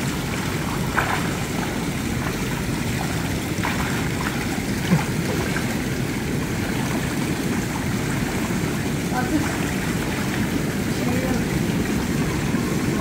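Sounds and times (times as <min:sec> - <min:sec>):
rush of moving water: 0:00.0 - 0:13.0
swimmer splashing in pool water: 0:00.0 - 0:13.0.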